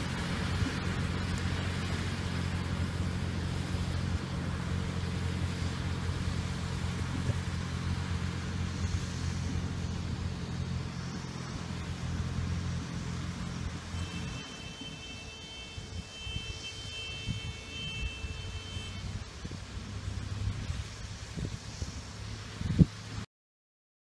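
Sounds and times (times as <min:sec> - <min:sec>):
field noise hiss: 0:00.0 - 0:23.3
tractor engine drone: 0:00.0 - 0:23.3.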